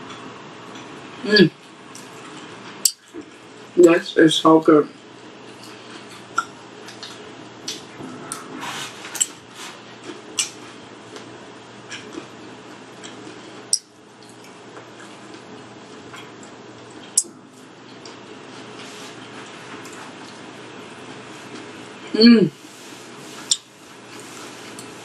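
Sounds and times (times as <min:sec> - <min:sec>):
chewing: 0:00.1 - 0:01.0, 0:01.6 - 0:03.5, 0:05.4 - 0:21.8, 0:23.4 - 0:25.0.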